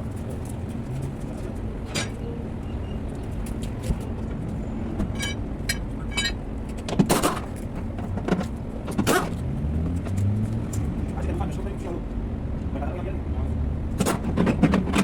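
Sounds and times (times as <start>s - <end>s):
low rumble of vehicle noise: 0.0s - 15.0s.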